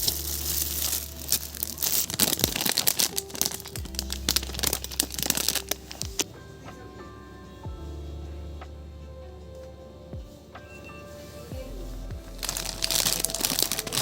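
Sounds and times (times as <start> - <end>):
crackling and rustling: 0.0 - 7.3, 8.6 - 14.0
soft background music: 0.0 - 14.0.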